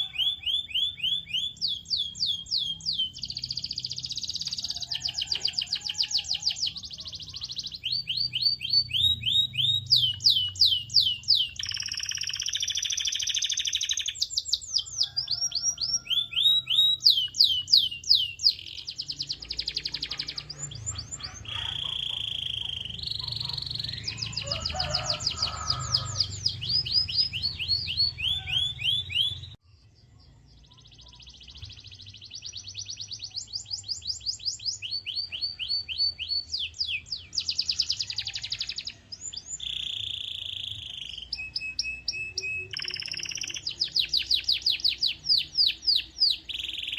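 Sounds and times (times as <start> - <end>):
canary singing: 0.0 - 29.6, 30.3 - 46.9.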